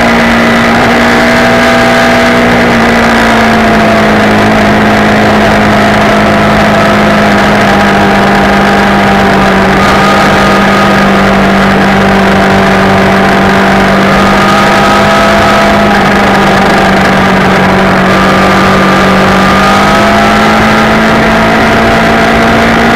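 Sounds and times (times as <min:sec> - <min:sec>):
motorcycle engine running: 0:00.0 - 0:22.9
rush of noise: 0:00.0 - 0:22.9.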